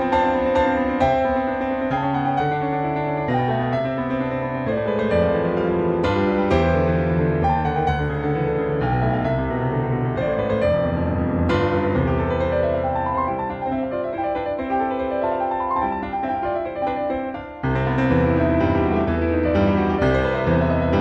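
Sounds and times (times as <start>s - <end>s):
piano melody with sustained chords: 0.0s - 21.0s.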